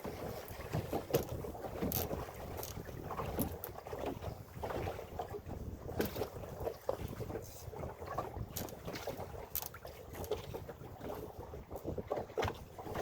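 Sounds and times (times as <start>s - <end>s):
water slapping against hull: 0.0s - 13.0s
wind buffeting microphone: 0.0s - 13.0s.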